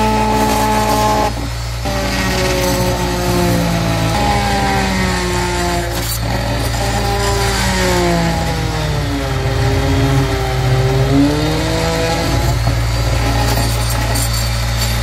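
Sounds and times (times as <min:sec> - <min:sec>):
power tool cutting fiberglass: 0:00.0 - 0:15.0.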